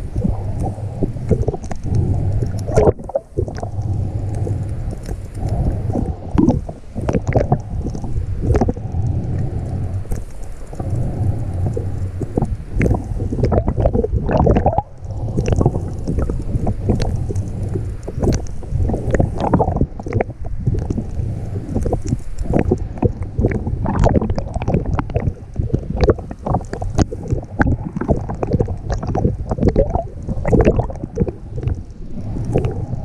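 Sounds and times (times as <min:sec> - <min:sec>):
muffled underwater rumble: 0:00.0 - 0:33.0.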